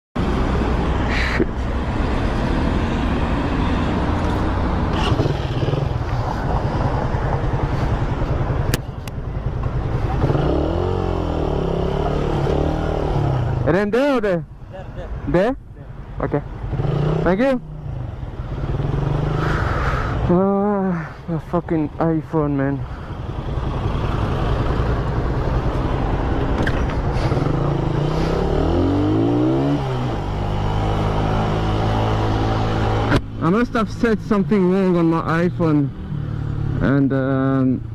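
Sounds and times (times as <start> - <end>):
road and traffic noise: 0.2 - 37.9.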